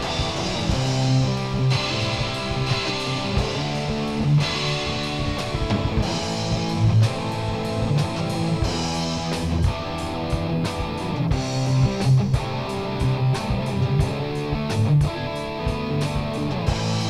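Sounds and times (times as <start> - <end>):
guitar-led background music: 0.0 - 17.0.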